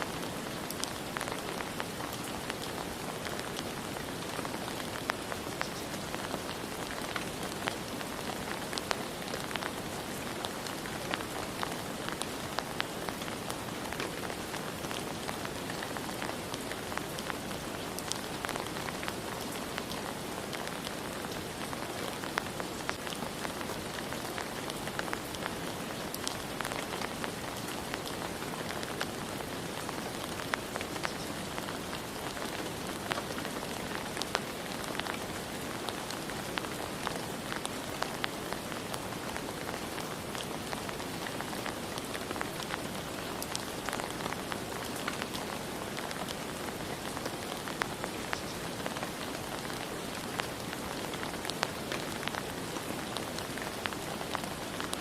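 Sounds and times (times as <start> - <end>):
rain falling: 0.0 - 55.0
raindrops tapping: 0.2 - 54.9.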